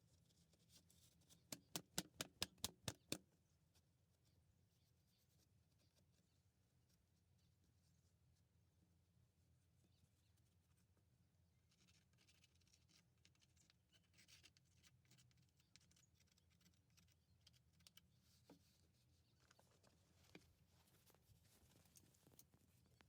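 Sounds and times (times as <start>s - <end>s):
light clicks and scratching: 0.0s - 8.5s, 9.6s - 23.0s.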